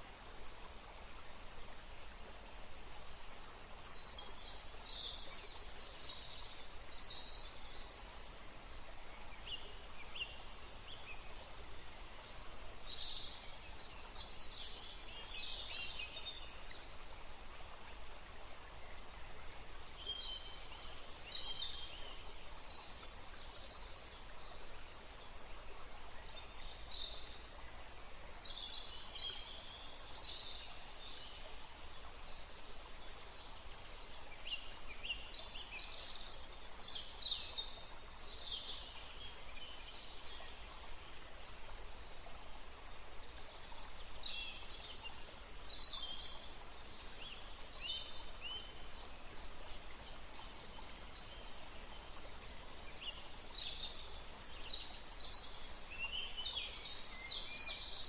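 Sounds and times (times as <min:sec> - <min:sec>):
flowing river water: 0:00.0 - 0:58.0.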